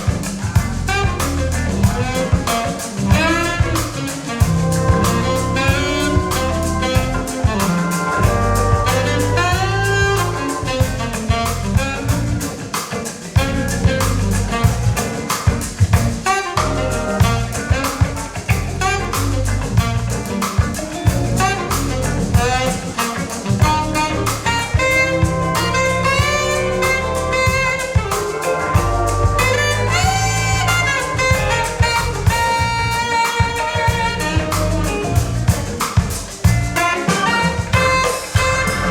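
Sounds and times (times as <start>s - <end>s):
jazz music over loudspeakers: 0.0s - 38.9s.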